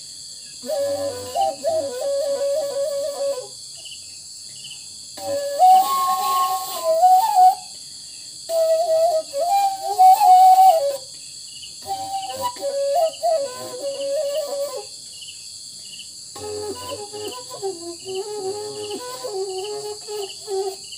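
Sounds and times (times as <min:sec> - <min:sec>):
bamboo flute melody: 0:00.0 - 0:03.8, 0:05.2 - 0:07.8, 0:08.4 - 0:11.2, 0:11.8 - 0:15.1, 0:16.3 - 0:20.9.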